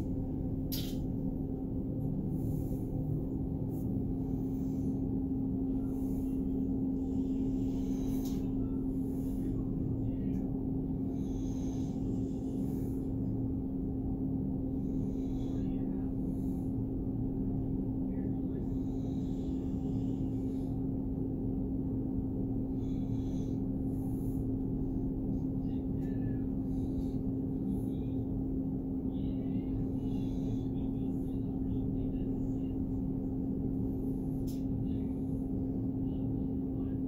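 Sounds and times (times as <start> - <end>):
droning hum: 0.0 - 37.0.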